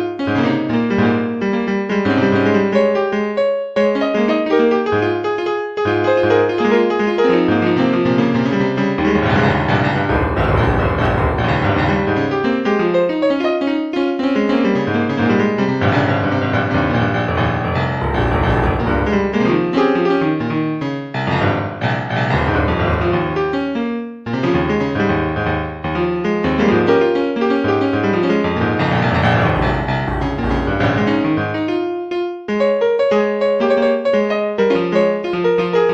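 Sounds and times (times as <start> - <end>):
piano background music: 0.0 - 35.9.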